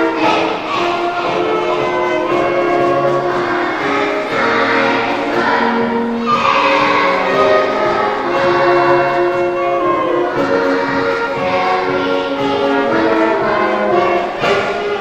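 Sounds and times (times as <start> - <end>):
music of held notes and chords: 0.0 - 15.0.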